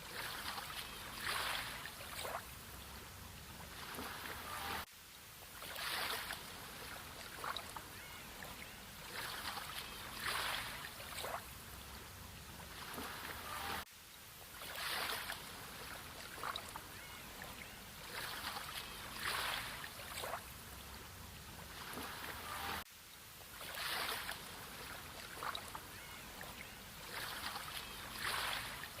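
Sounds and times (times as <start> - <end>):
small sea waves washing in: 0.0 - 29.0.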